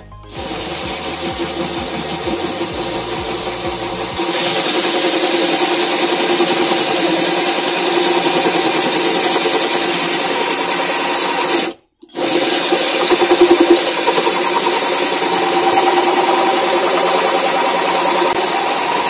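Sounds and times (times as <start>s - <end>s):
power drill cutting glass: 0.0s - 19.0s.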